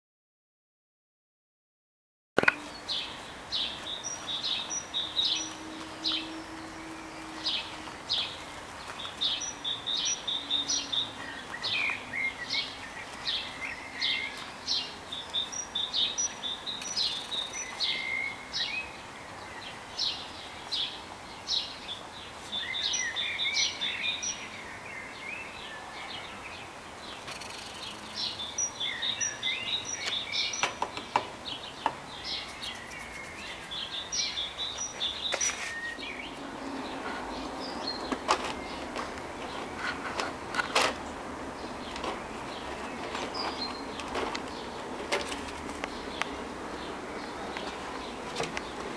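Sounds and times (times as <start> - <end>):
songbirds chirping and singing: 2.4 - 48.9
steady background hiss: 2.5 - 48.9.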